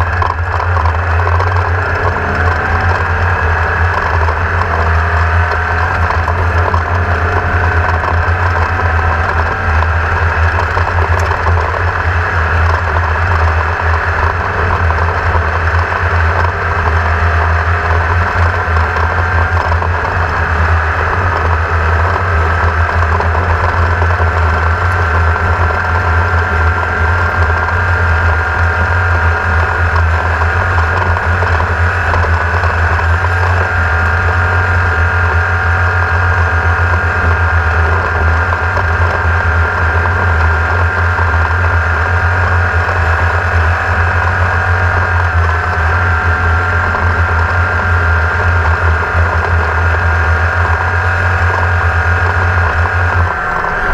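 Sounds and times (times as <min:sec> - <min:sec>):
engine humming with whine: 0:00.0 - 0:53.9.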